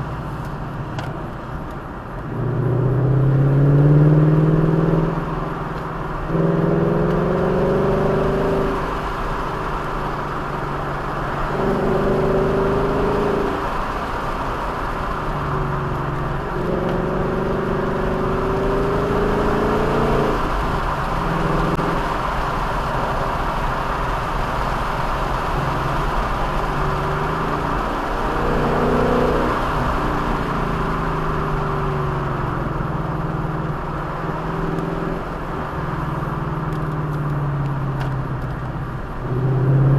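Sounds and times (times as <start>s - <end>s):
road and wind noise: 0.0s - 39.9s
vehicle engine accelerating: 0.0s - 39.9s.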